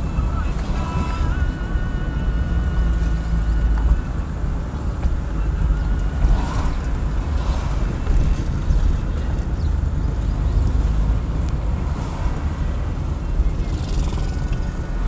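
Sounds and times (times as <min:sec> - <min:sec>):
car engine and tyres rumbling: 0:00.0 - 0:15.0
wind noise on microphone: 0:00.0 - 0:15.0.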